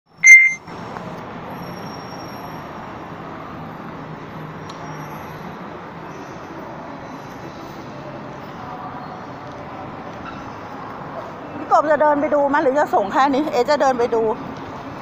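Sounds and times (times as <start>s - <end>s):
distant road traffic hum: 0.2s - 15.0s.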